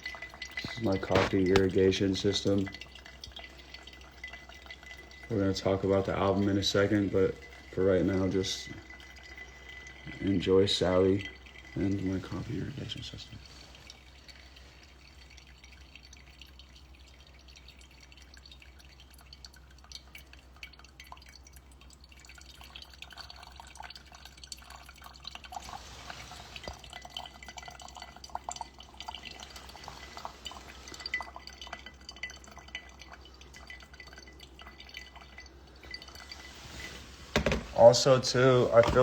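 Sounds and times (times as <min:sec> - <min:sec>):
coffee dripping: 0:00.0 - 0:39.0.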